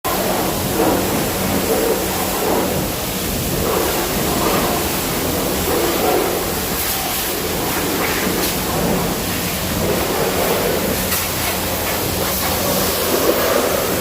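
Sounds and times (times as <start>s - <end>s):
high-pressure water jet spraying: 0.1s - 14.0s.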